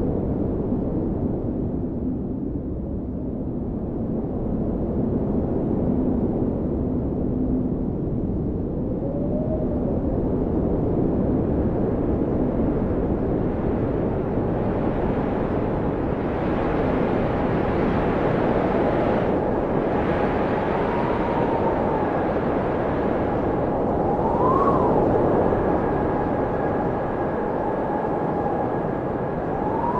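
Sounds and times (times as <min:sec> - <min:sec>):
blizzard wind blowing: 0:00.0 - 0:29.9
howling whistle of wind: 0:05.0 - 0:29.9.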